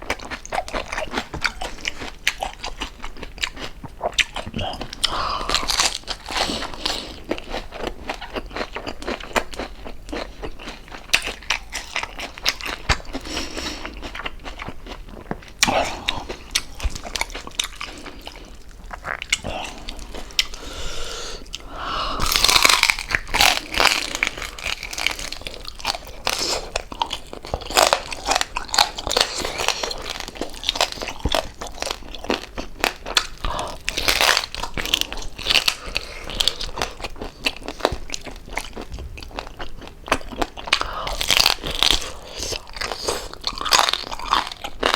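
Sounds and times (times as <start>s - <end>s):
crispy skin crunching between teeth: 0.0s - 20.7s, 21.4s - 44.9s
chewing and mouth noises: 0.0s - 20.8s, 21.4s - 44.9s.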